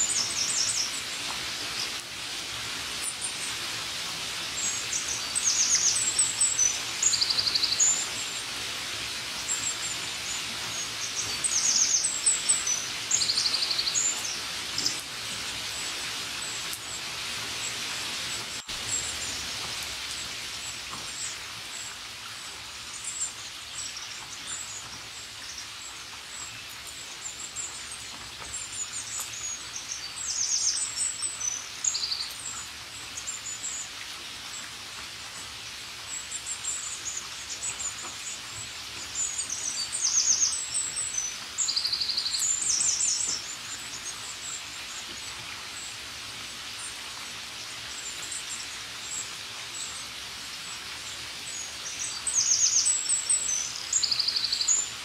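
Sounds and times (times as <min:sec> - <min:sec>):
songbirds chirping: 0:00.0 - 0:34.8, 0:35.4 - 0:55.0
rain hiss: 0:00.0 - 0:55.0.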